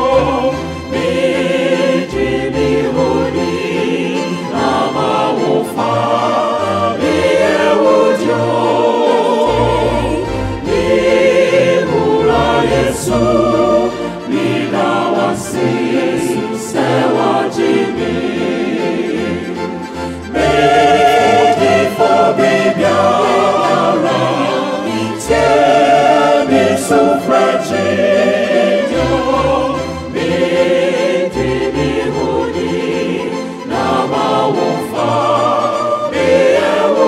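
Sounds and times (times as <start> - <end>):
choir singing in harmony: 0.0 - 37.0
keyboard accompaniment: 0.0 - 37.0.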